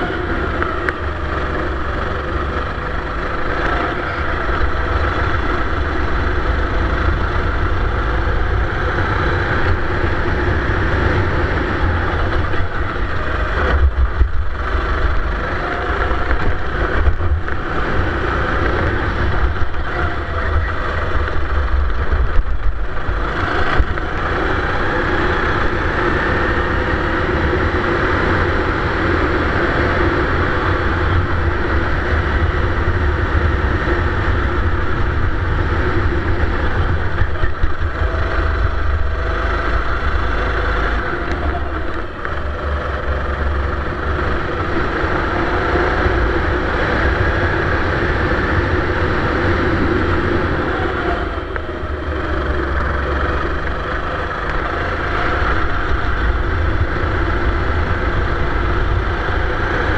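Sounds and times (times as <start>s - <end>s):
kart engine racing: 0.0s - 59.9s.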